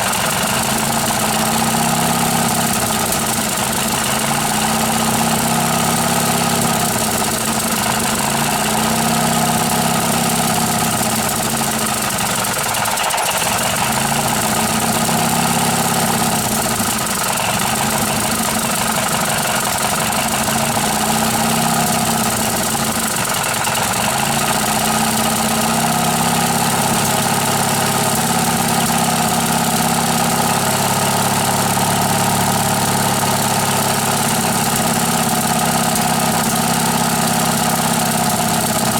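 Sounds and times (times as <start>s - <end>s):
twin-cylinder engine running: 0.0s - 38.9s.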